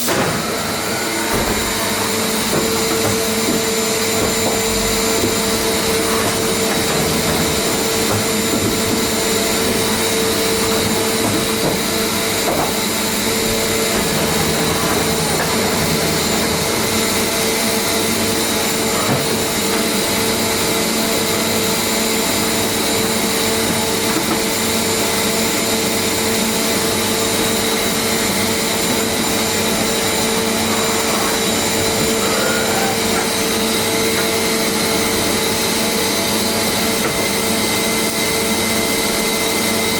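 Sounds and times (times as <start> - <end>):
constant machine whine: 0.0 - 39.9
machining centre hum and hiss: 0.0 - 39.9.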